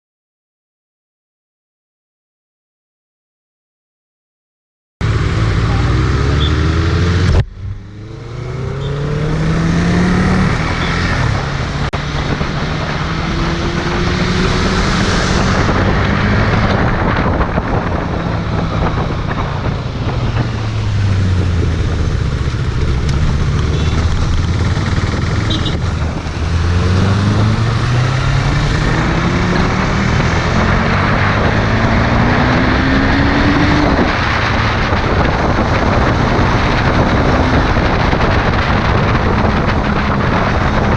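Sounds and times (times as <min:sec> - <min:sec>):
motorcycle engine accelerating: 0:05.0 - 0:40.9
road and wind noise: 0:05.0 - 0:40.9.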